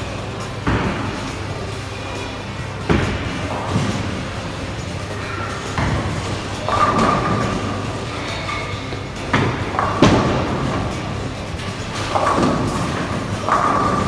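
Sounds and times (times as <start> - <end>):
bowling balls thudding on lanes: 0.0 - 14.0
bowling pins clattering: 0.0 - 14.0.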